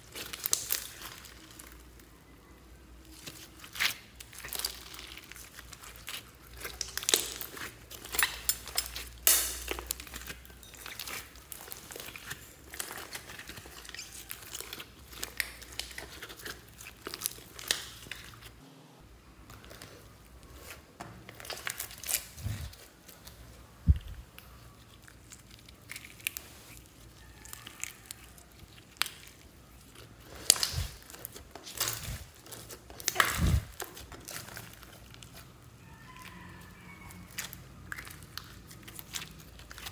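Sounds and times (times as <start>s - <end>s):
sticky slime crackles and clicks: 0.0s - 2.0s, 3.1s - 18.6s, 21.3s - 36.3s, 36.9s - 39.9s.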